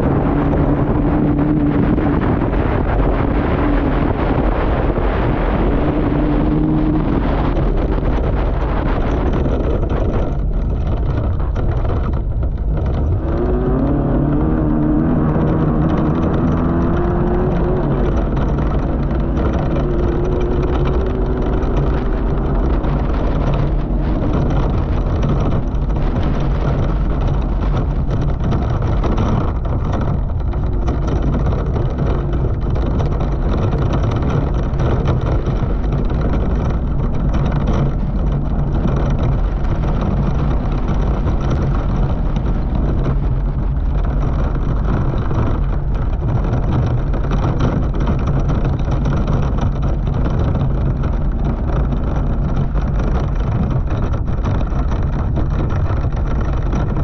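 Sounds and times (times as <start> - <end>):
buggy engine running under load: 0.0 - 57.0
wind noise on microphone: 0.0 - 57.0.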